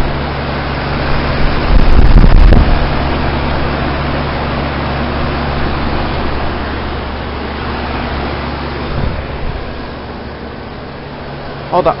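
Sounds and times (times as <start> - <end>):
fan air rushing: 0.0 - 12.0
low compressor hum: 0.0 - 12.0.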